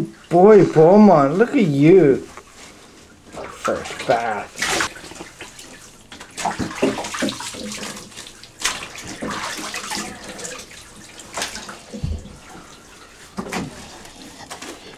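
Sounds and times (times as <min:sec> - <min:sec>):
water splashing in bathtub: 0:00.0 - 0:14.9.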